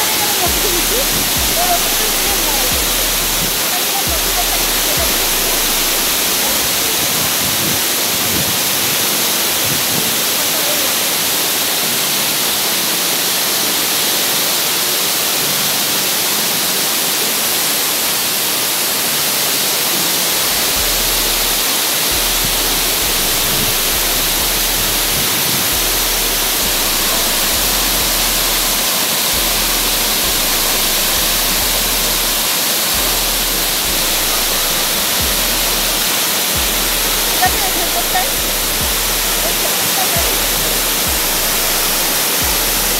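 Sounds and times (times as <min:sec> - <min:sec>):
waterfall rushing over rocks: 0:00.0 - 0:42.9.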